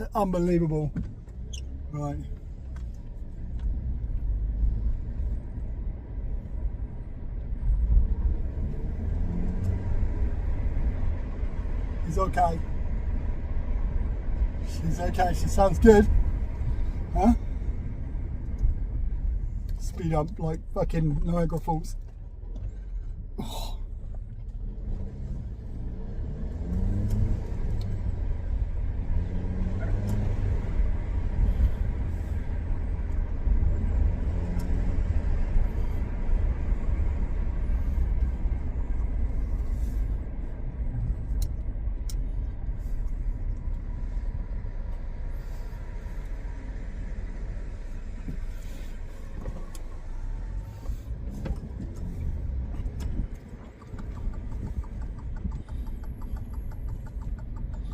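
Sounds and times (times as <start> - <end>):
car engine accelerating: 0.0 - 57.9
road noise: 0.0 - 57.9.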